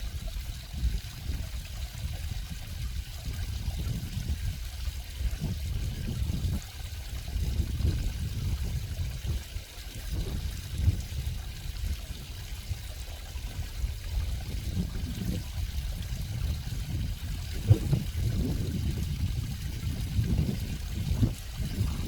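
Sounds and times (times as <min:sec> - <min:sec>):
stream water trickling: 0:00.0 - 0:22.0.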